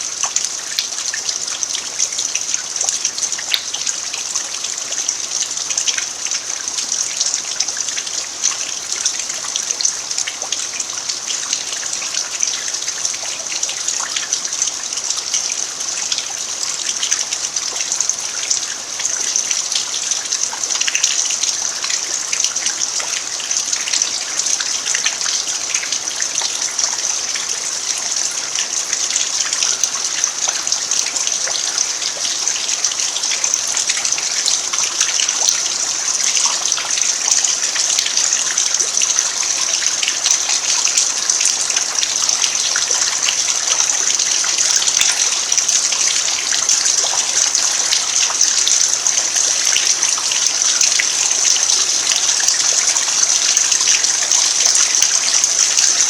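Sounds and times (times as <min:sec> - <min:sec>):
rain falling on dirt: 0:00.0 - 0:56.0.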